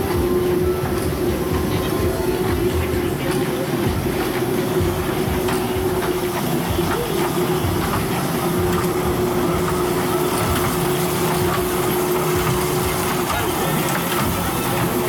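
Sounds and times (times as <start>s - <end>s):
kiddie ride train whine: 0.0s - 15.0s.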